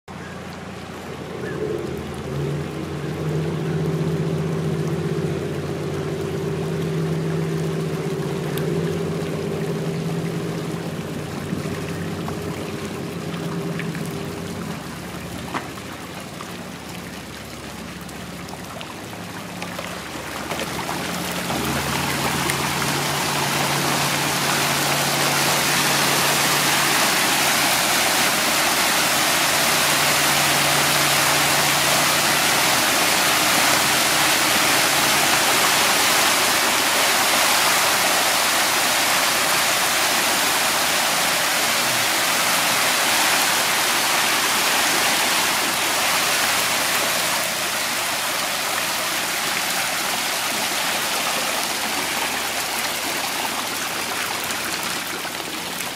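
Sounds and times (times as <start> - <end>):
fish splashing at water surface: 0.2 - 55.9.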